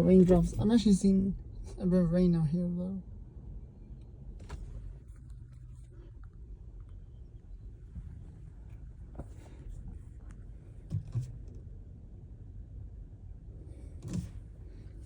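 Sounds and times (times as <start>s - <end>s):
car cabin rumble: 0.0s - 2.8s, 4.0s - 15.0s.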